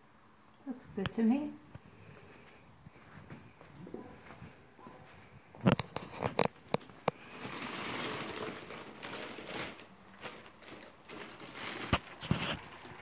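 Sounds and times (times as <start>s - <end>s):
fabric rustling: 2.3s - 13.0s.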